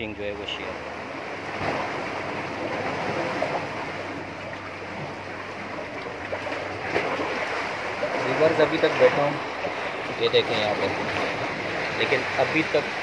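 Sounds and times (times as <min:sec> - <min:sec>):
sea water washing: 0:00.0 - 0:13.0.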